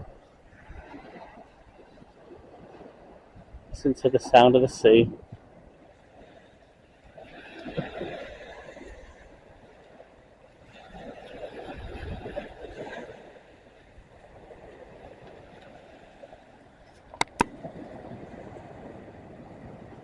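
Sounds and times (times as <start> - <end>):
sea waves washing on beach: 0.0 - 20.0.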